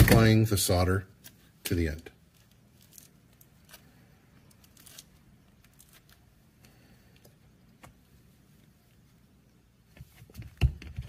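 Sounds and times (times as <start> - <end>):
faint clicks and rustles of handling: 1.2 - 11.0.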